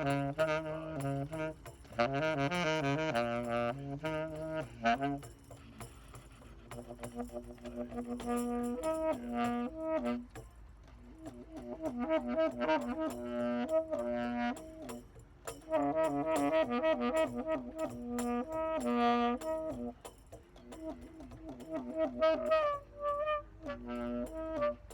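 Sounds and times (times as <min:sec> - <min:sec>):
wind instrument improvising: 0:00.0 - 0:24.9.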